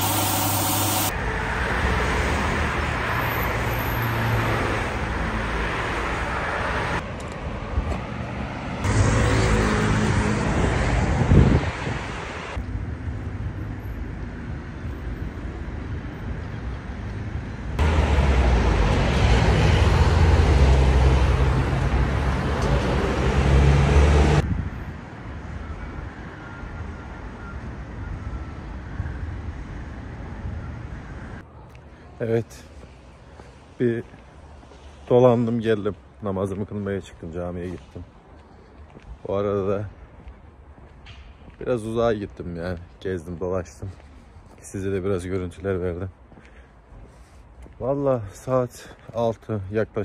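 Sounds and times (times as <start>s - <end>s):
cars passing on road: 0.0s - 50.0s.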